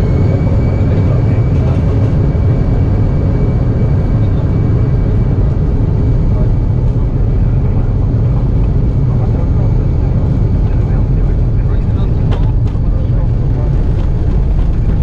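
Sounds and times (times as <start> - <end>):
jet engines rumbling on takeoff: 0.0 - 15.0.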